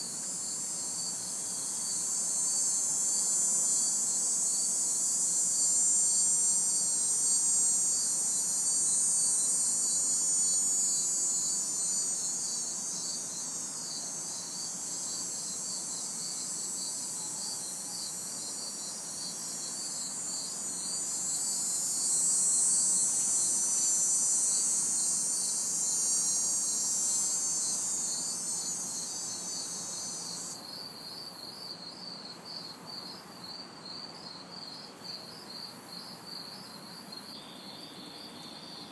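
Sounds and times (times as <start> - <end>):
cicada buzz: 0.0 - 38.9
crickets chirping: 0.0 - 38.9.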